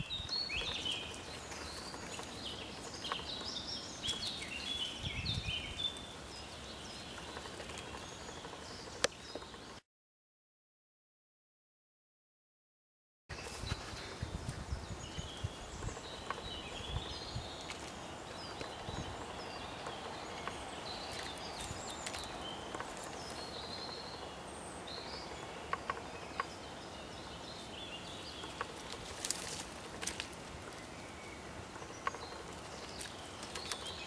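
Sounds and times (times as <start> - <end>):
small birds twittering: 0.0 - 9.8, 13.3 - 34.0.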